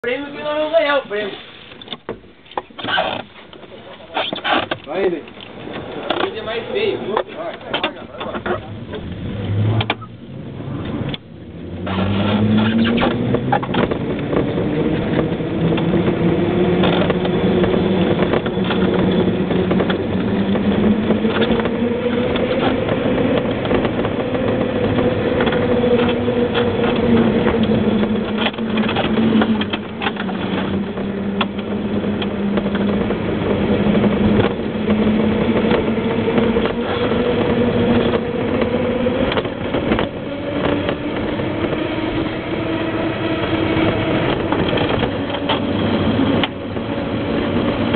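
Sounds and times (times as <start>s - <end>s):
knocks and rattles over road: 0.0s - 47.9s
vehicle running hum: 5.1s - 47.9s.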